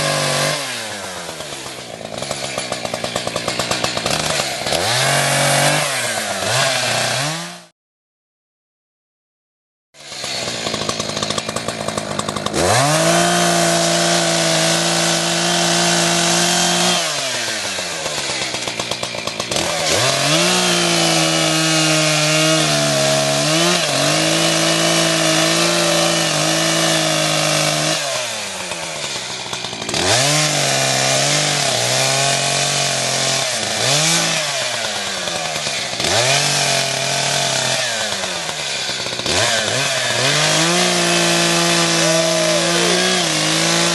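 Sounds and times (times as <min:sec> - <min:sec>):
chainsaw revving while cutting wood: 0:00.0 - 0:07.7, 0:10.0 - 0:43.9.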